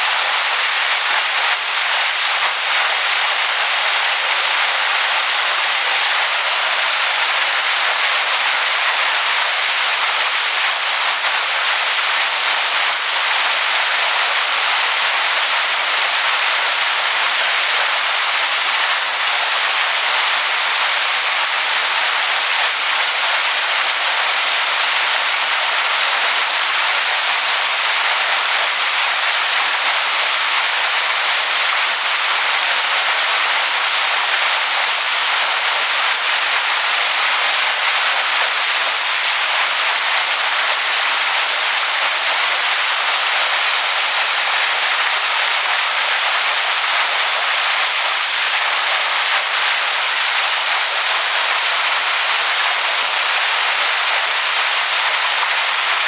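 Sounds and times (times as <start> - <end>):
waterfall splashing onto rocks: 0.0 - 56.0.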